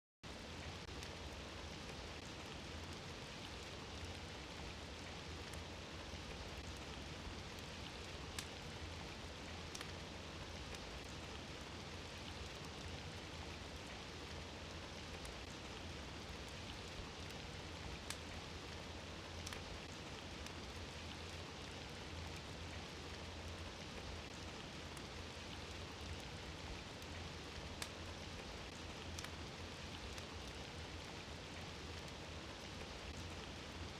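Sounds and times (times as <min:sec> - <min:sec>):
fireplace fire crackling: 0:00.2 - 0:33.9.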